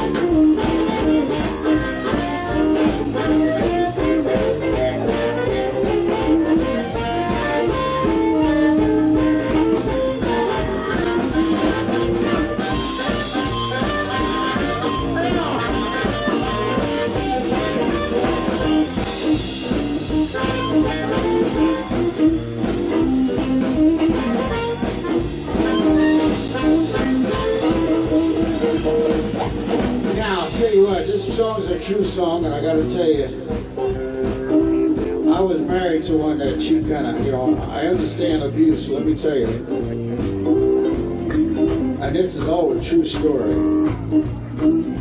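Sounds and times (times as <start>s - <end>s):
blues band playing: 0.0s - 45.0s.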